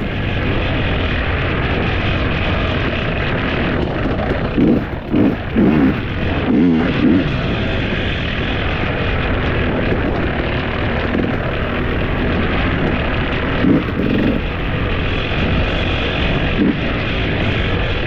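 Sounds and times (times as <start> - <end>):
vehicle engine running: 0.0 - 18.0
wind rushing on microphone: 0.0 - 18.0.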